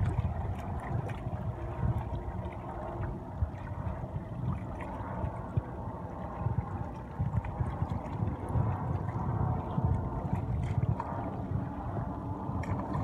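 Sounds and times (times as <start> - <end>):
low rumble: 0.0 - 13.0
water lapping and gurgling: 0.0 - 13.0.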